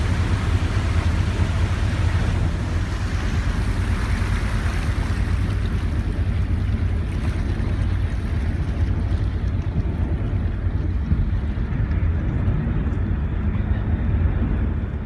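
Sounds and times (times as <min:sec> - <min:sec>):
ferry engine rumble: 0:00.0 - 0:15.0
wind and water rushing: 0:00.0 - 0:15.0.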